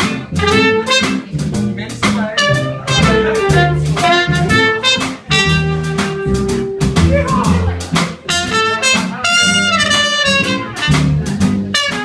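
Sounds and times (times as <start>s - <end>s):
muted trumpet melody: 0.0s - 1.4s, 2.3s - 7.4s, 8.2s - 12.0s
big band jazz: 0.0s - 12.0s.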